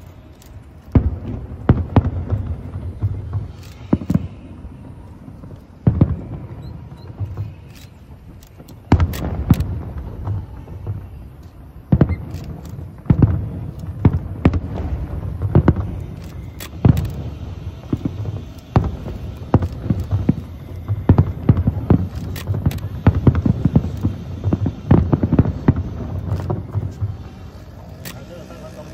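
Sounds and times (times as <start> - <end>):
fireworks booming: 0.6 - 28.9.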